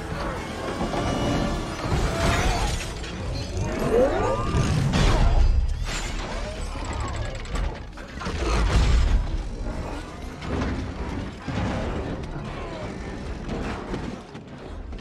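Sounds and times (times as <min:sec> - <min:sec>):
film score music: 0:00.0 - 0:15.0
machine clanking and whirring: 0:00.0 - 0:15.0.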